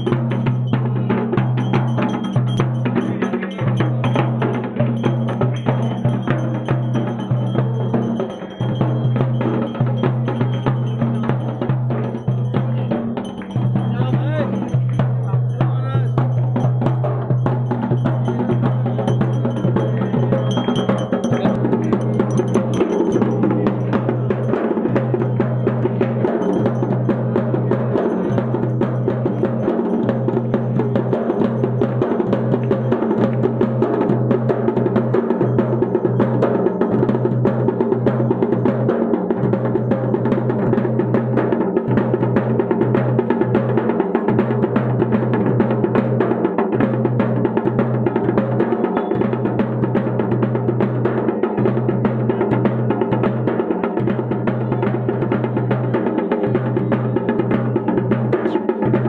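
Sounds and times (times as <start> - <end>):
drums beating fast: 0.0 - 59.0.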